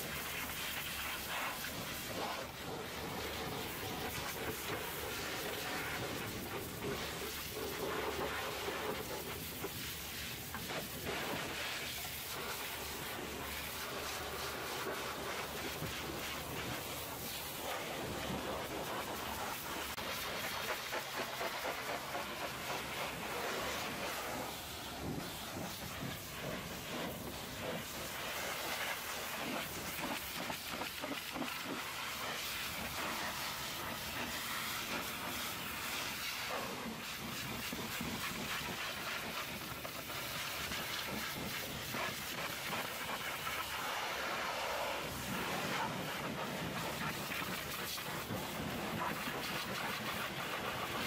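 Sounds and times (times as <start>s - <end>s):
pressure washer jet hissing: 0.0s - 51.0s
spray spattering on metal: 0.0s - 51.0s.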